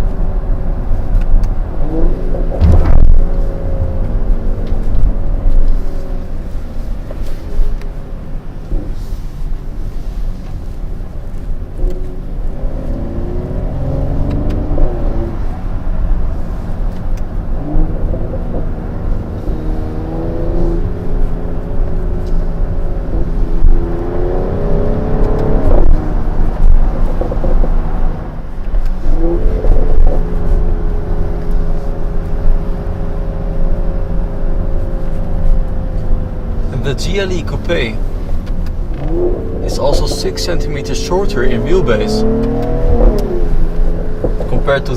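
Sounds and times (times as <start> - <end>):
car engine accelerating: 0.0 - 44.9
low road rumble: 0.0 - 44.9.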